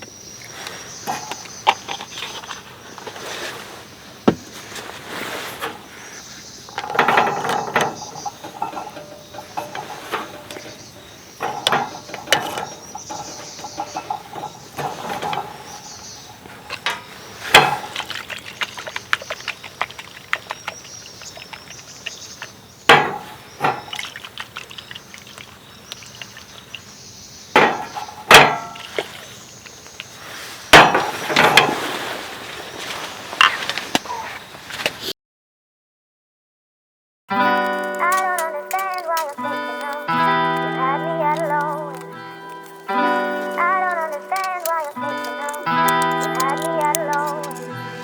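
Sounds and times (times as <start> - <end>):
hard objects clattering: 0.5 - 26.9, 27.6 - 30.2, 37.3 - 48.0.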